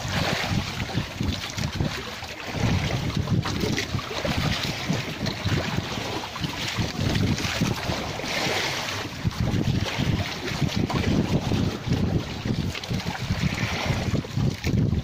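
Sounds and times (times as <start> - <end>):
water washing against boat: 0.0 - 15.0
wind buffeting microphone: 0.0 - 15.0.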